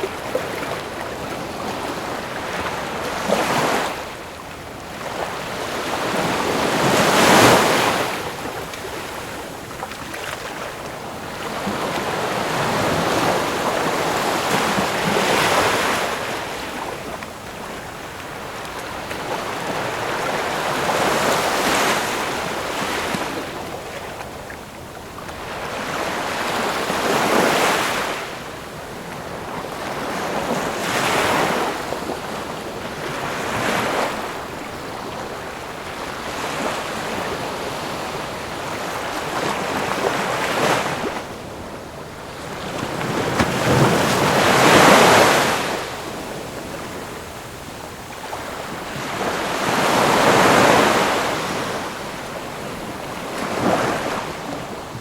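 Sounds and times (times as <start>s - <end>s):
ocean waves breaking: 0.0s - 24.6s, 25.2s - 55.0s
surf washing: 0.0s - 55.0s.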